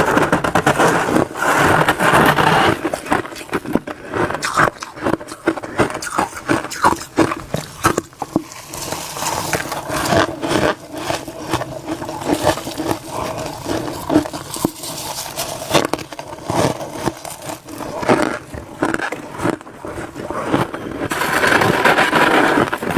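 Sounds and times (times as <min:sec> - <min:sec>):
spoon scraping frost: 0:00.0 - 0:22.9
crisp chewing crunches: 0:00.2 - 0:22.9.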